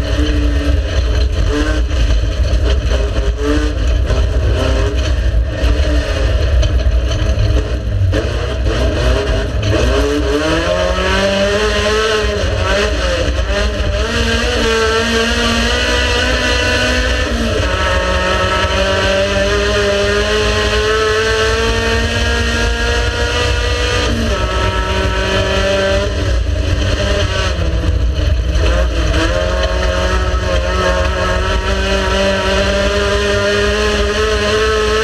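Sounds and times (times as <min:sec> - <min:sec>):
racing car engine at high revs: 0:00.0 - 0:35.0.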